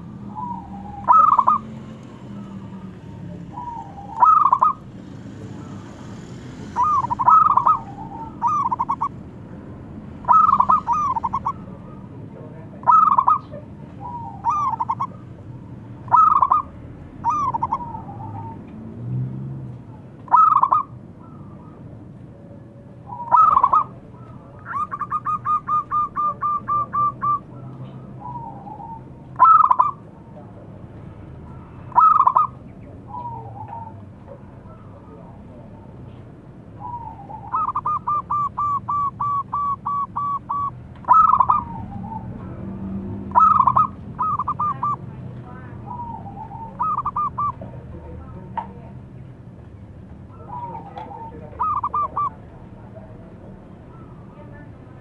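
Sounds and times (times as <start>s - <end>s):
dove cooing: 0.0s - 9.3s, 10.0s - 18.7s, 20.2s - 21.8s, 22.6s - 30.4s, 31.5s - 35.9s, 36.8s - 48.4s, 50.3s - 54.4s.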